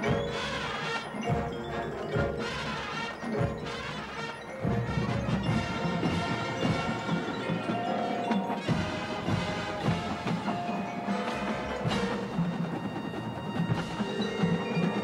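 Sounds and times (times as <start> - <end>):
mallet percussion: 0.0 - 15.0
marching band playing: 0.0 - 15.0.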